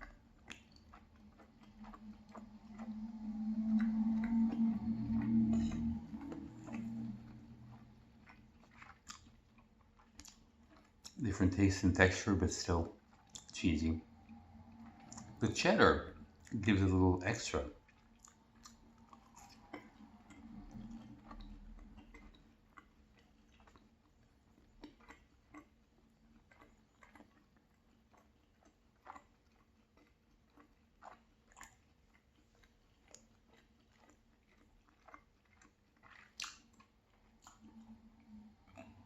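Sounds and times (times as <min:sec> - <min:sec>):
lip smacks and clicks: 0:00.0 - 0:11.8, 0:12.7 - 0:14.0, 0:14.7 - 0:15.6, 0:17.9 - 0:23.9, 0:24.6 - 0:37.9
person chewing food: 0:00.0 - 0:39.0.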